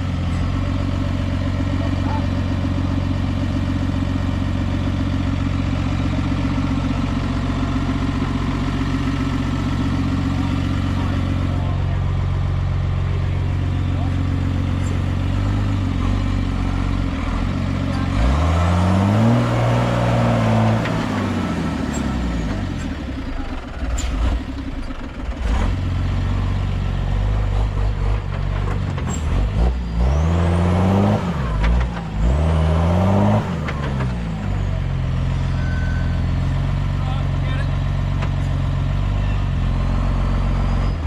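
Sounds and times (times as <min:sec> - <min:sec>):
diesel truck engine revving: 0:00.0 - 0:41.0.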